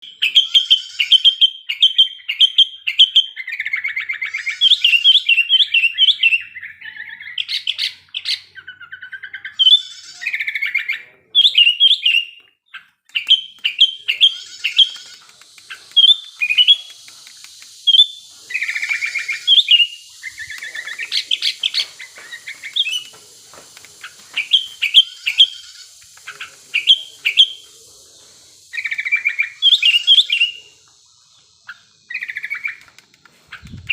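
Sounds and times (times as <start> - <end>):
bird chirping and warbling: 0.1 - 23.2, 24.0 - 33.9.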